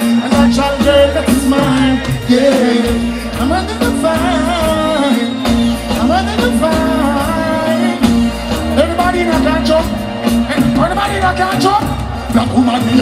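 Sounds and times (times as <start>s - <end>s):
bass line: 0.0s - 13.0s
drums: 0.0s - 13.0s
live reggae band: 0.0s - 13.0s
person singing through pa: 0.0s - 13.0s.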